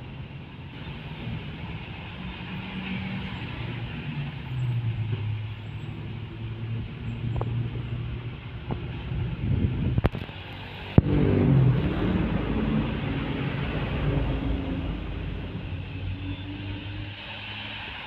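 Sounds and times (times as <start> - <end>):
tyre and road noise: 0.0 - 18.0
passing vehicle engine hum: 0.9 - 18.0.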